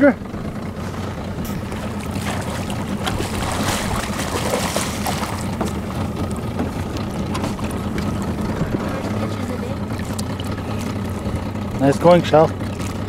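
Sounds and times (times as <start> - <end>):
boat motor hum: 0.0 - 13.0
fish splashing at water surface: 0.8 - 11.5, 12.5 - 13.0.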